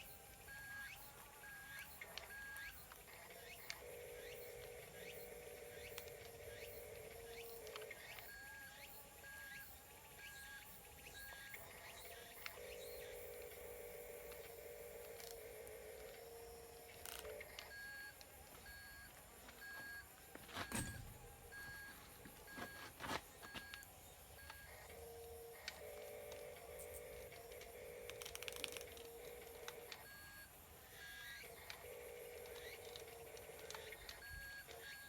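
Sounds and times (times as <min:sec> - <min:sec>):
faint electronic music: 0:00.0 - 0:35.0.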